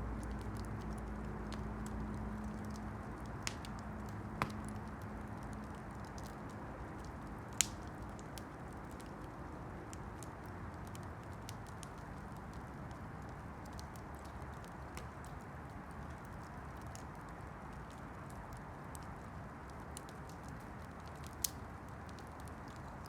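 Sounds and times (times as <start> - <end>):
campfire crackling: 0.1 - 23.0
fire popping: 0.2 - 23.0.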